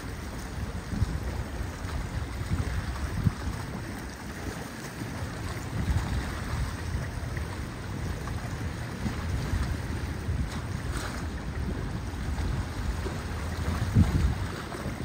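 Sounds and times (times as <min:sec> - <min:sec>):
choppy sea water rushing: 0:00.0 - 0:15.0
wind buffeting microphone: 0:00.0 - 0:15.0.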